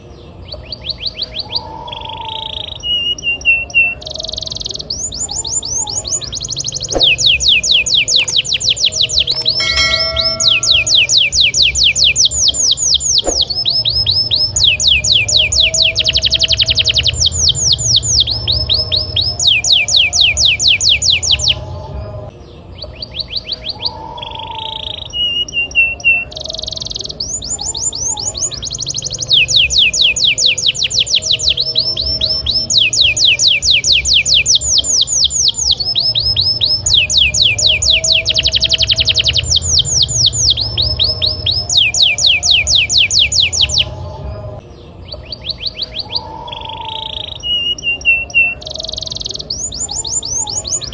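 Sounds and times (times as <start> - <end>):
canary singing rolling song: 0.0 - 50.9.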